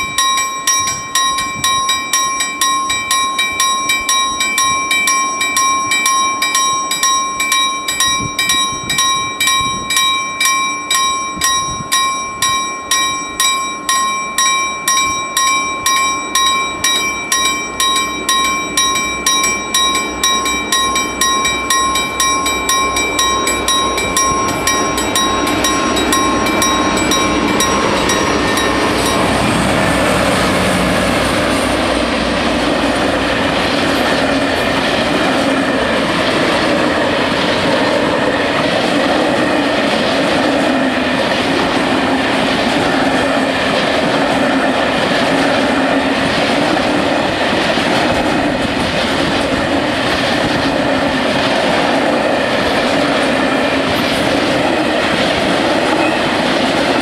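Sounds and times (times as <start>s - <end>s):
level crossing bells ringing: 0.0s - 48.3s
diesel locomotives hauling train: 0.0s - 57.0s.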